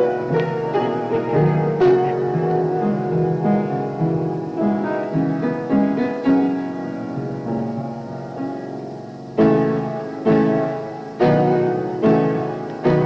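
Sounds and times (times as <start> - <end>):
slow piano chords and melody: 0.0 - 13.0.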